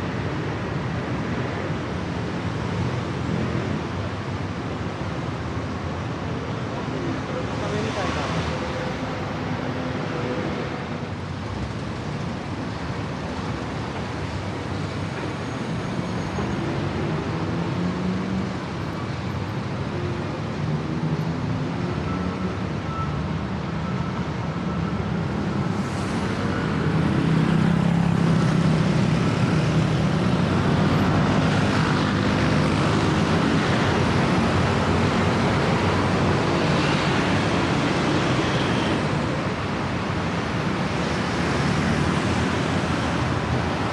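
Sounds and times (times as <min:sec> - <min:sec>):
traffic passing: 0:00.0 - 0:43.9.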